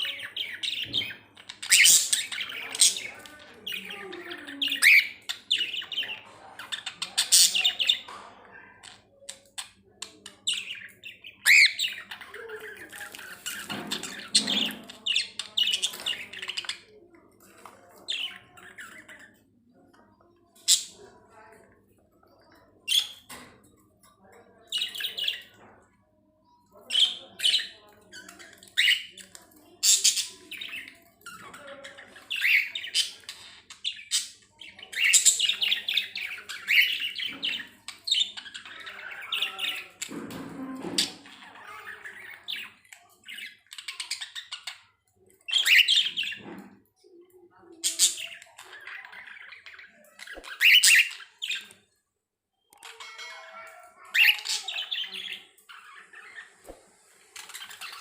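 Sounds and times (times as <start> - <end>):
budgerigars chirping and warbling: 0.0 - 25.8, 26.4 - 46.9, 47.5 - 51.8, 52.8 - 58.0.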